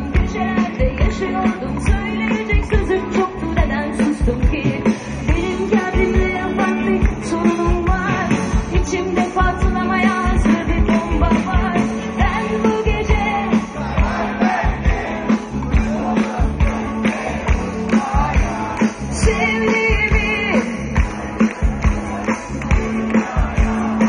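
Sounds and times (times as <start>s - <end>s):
steady drum beat: 0.0s - 24.0s.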